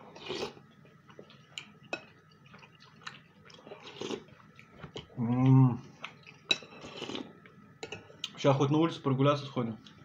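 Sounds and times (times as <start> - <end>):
chewing: 0.2 - 8.4.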